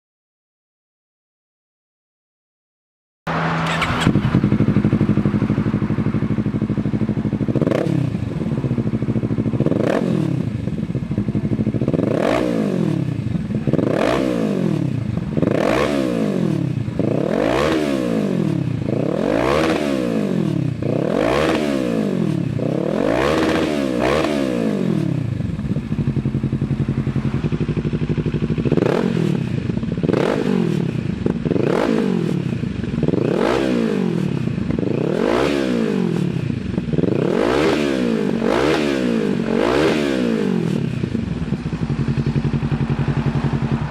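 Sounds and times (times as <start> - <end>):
motorcycle engine revving: 3.3 - 43.9.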